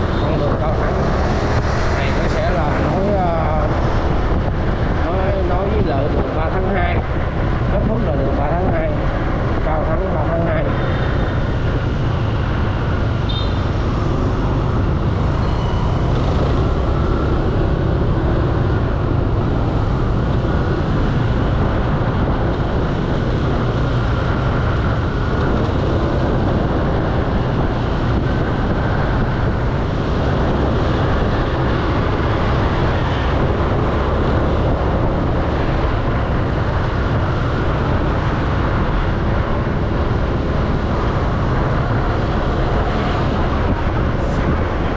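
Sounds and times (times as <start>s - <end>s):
motor scooter road noise: 0.0s - 44.9s
motorbikes and cars passing: 0.0s - 44.9s.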